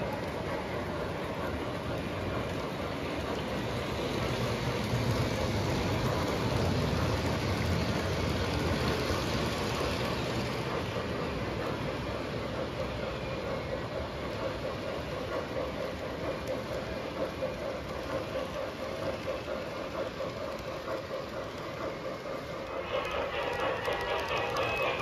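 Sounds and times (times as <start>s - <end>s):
model train wheels rumbling on rails: 0.0s - 25.0s.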